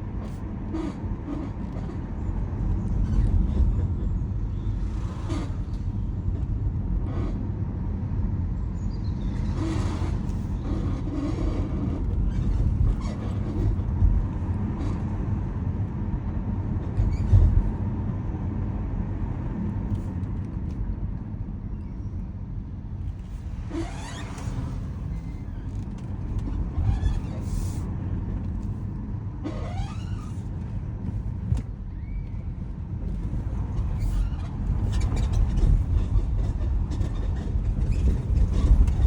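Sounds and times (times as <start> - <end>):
car suspension creaking and knocking: 0.0 - 7.6, 9.0 - 16.0, 16.7 - 17.9, 22.9 - 39.0
road and tyre rumble: 0.0 - 39.0.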